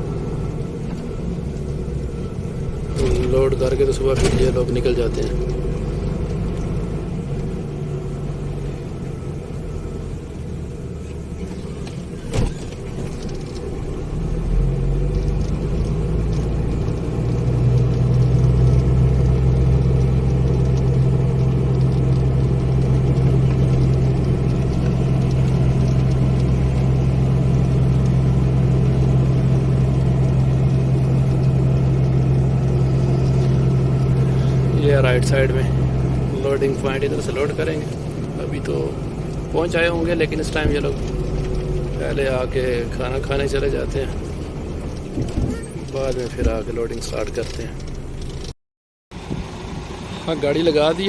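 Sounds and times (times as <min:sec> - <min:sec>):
truck engine drone: 0:00.0 - 0:51.0.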